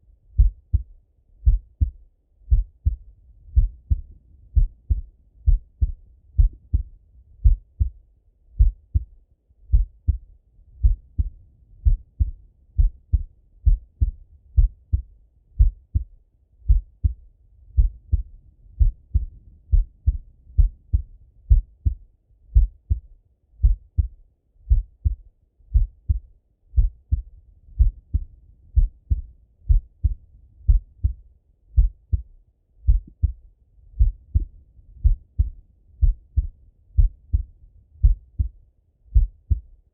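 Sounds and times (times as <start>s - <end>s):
heartbeat through stethoscope: 0.4s - 39.7s.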